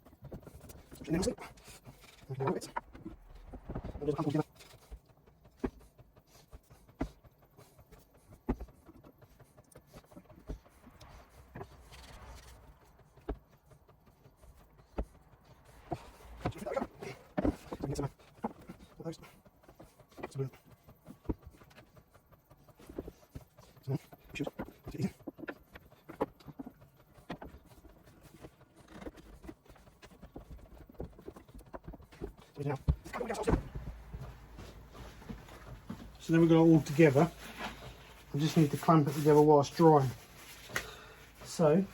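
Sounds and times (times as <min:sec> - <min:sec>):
faint rustling: 0:00.0 - 0:41.9.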